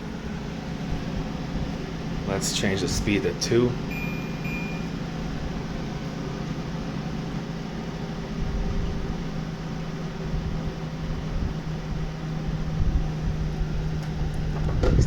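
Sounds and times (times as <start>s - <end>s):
air conditioner blower running: 0.0s - 15.0s.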